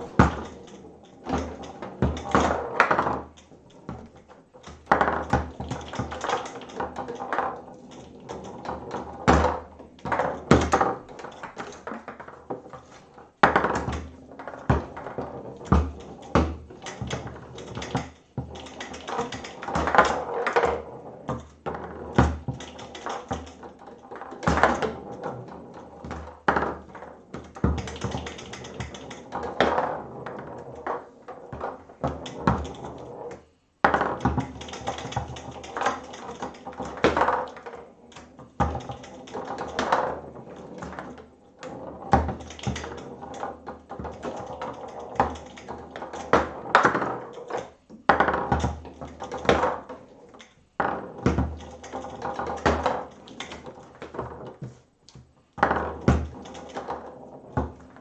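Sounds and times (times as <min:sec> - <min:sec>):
foosball ball knocking figures: 0:00.0 - 0:58.0.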